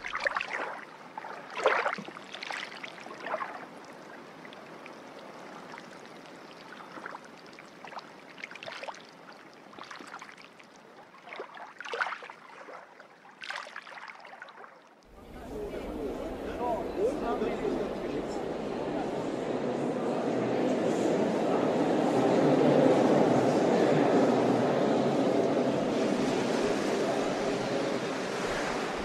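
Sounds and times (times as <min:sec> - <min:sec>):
water splashing and sloshing: 0:00.0 - 0:19.8, 0:25.4 - 0:29.0.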